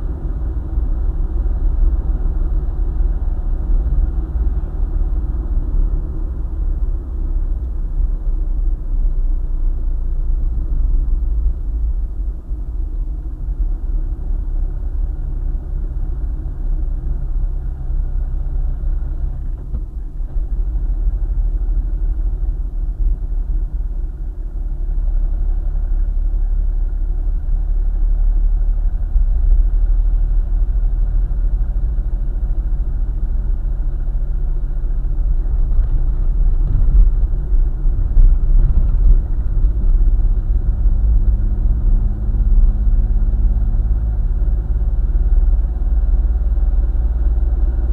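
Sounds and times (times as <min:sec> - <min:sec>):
car engine and road rumble: 0:00.0 - 0:47.9.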